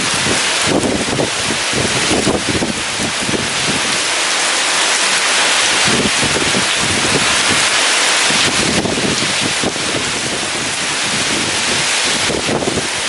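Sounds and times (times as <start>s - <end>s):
heavy rain falling: 0.0s - 13.0s
strong wind gusting: 0.0s - 13.0s.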